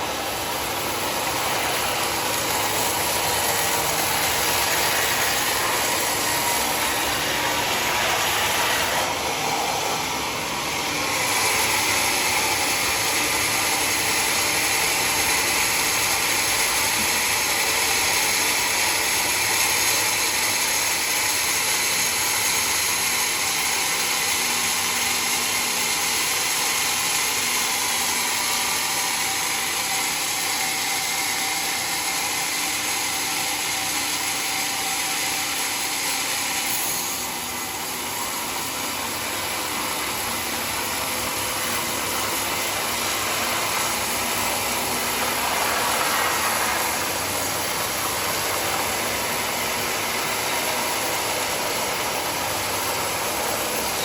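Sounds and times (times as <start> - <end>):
sawmill machine noise: 0.0 - 54.0.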